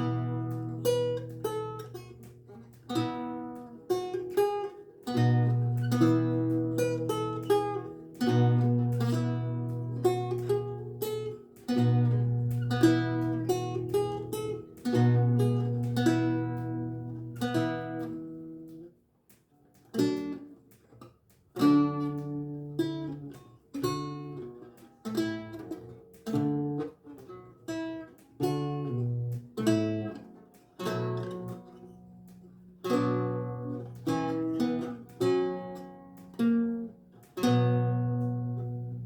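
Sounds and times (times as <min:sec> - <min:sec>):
lute plucked chords and notes: 0:00.0 - 0:18.9, 0:21.6 - 0:39.0.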